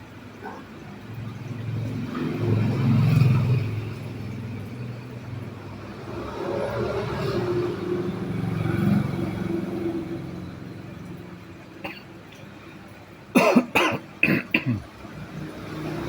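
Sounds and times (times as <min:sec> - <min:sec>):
passing motor vehicle rumble: 0:00.4 - 0:13.0, 0:14.8 - 0:16.0.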